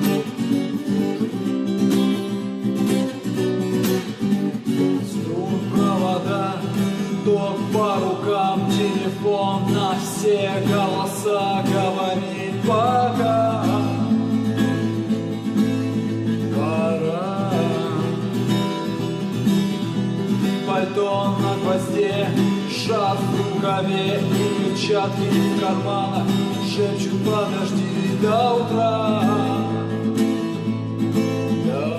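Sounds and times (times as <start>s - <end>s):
acoustic guitar strumming: 0.0s - 31.9s
wordless vocal melody: 4.0s - 31.9s.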